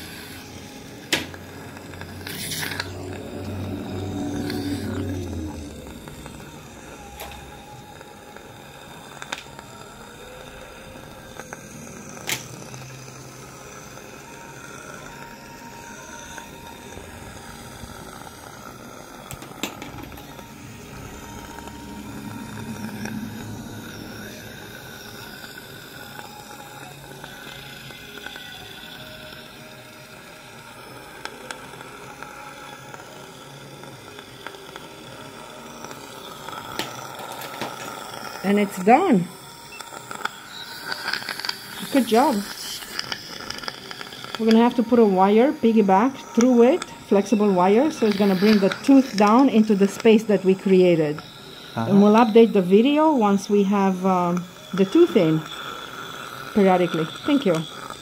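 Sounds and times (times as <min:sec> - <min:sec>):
dental suction hissing: 0:00.0 - 0:58.0.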